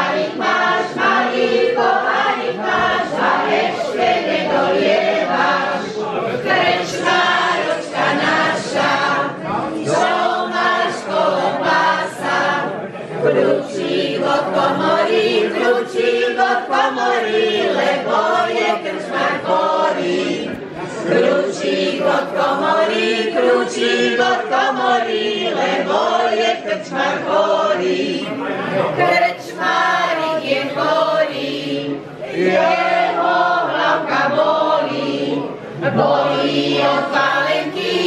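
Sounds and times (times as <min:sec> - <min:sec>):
women singing together: 0:00.0 - 0:38.0.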